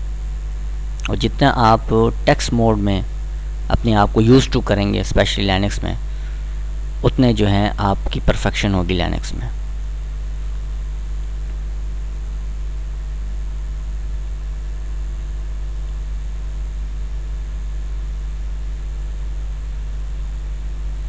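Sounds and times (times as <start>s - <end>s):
low electrical hum with hiss: 0.0s - 21.0s.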